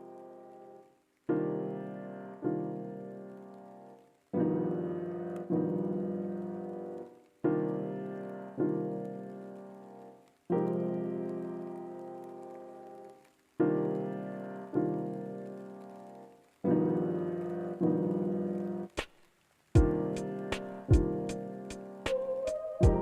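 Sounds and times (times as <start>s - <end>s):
slow piano chords: 0.0s - 19.0s, 19.8s - 23.0s.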